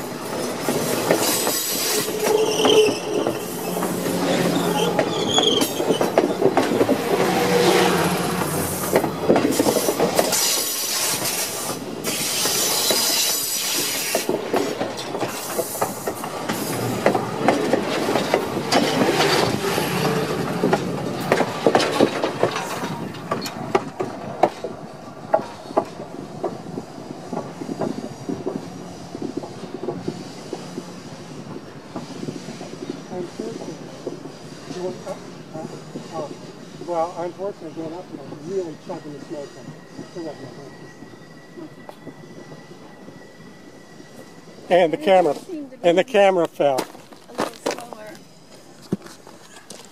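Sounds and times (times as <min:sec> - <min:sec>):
train wheels clattering over rails: 0:00.0 - 0:43.2.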